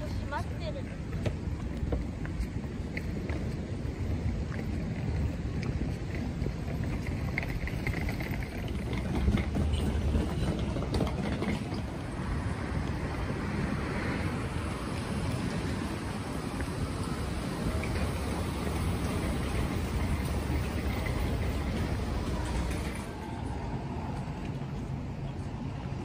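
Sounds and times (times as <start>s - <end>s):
street ambience: 0.0s - 26.0s
wind rumble on microphone: 0.0s - 26.0s.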